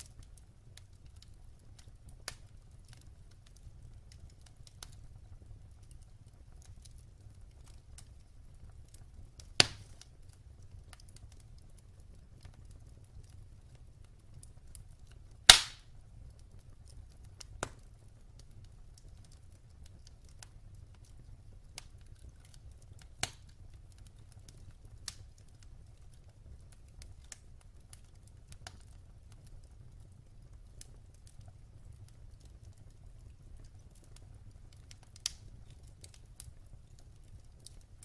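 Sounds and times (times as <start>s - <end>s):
wood fire pops: 0.0s - 38.0s.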